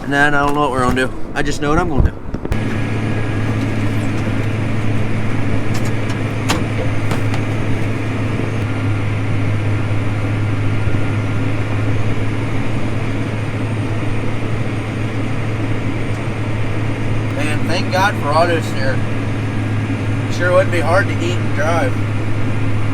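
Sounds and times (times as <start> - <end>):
tractor engine droning: 2.4 - 22.9.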